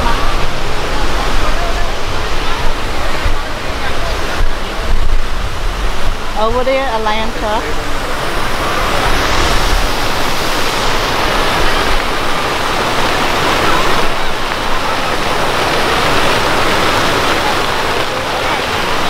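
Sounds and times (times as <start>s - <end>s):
faint voices: 0.0s - 19.0s
fountain jets splashing: 0.0s - 19.0s.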